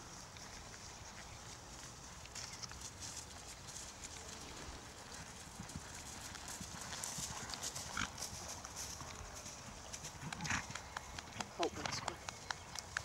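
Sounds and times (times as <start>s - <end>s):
pony hoofbeats on grass: 0.0s - 13.0s.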